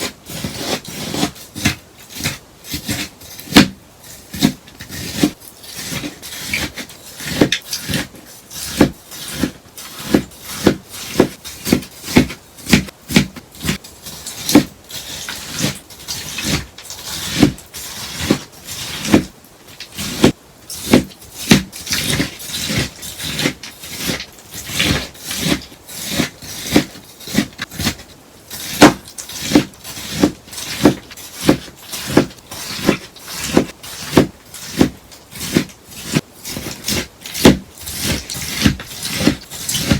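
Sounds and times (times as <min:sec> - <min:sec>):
sponge being cut: 0:00.0 - 0:39.9.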